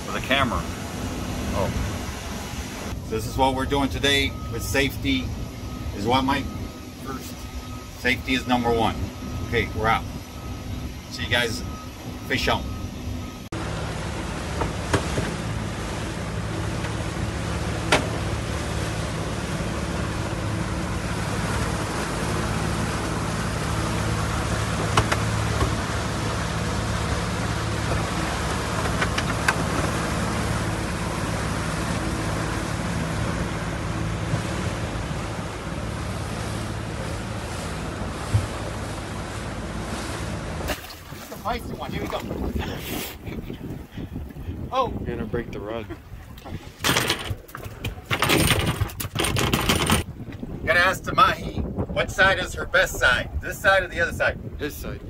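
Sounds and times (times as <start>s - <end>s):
boat engine running: 0.0s - 55.0s
water noise: 0.0s - 55.0s
wind: 0.0s - 55.0s.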